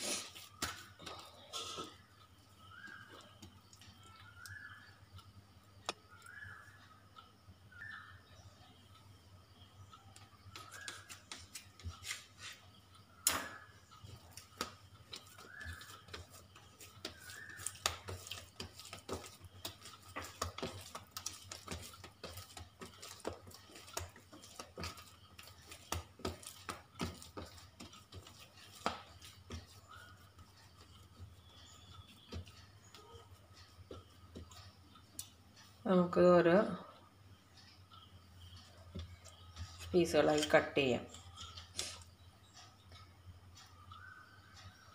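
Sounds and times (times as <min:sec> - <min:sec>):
dough wet taps and squelches: 0:00.0 - 0:07.3, 0:08.9 - 0:44.9.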